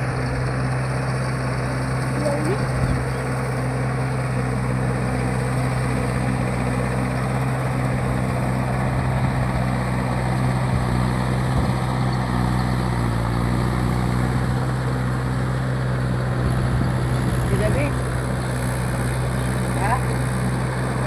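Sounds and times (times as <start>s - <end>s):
tractor diesel engine humming: 0.0s - 21.0s.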